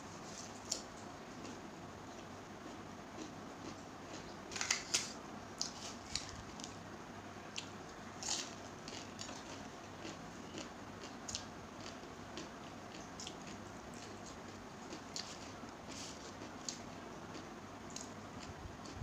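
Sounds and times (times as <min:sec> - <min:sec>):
person chewing rice: 0:00.2 - 0:04.4, 0:07.5 - 0:19.0.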